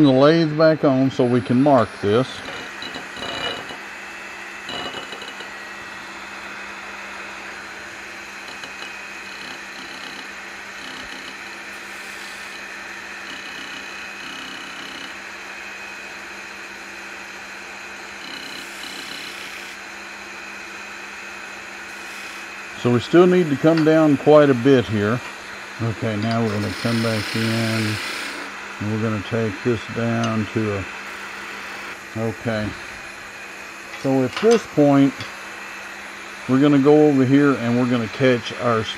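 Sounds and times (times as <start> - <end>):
wood lathe motor hum: 0.0 - 38.9.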